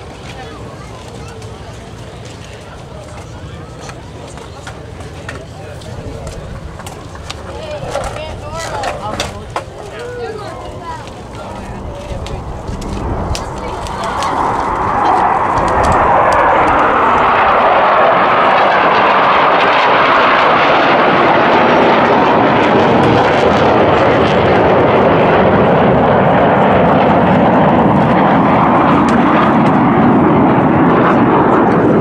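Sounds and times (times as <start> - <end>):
jet aircraft flying over: 0.0 - 32.0.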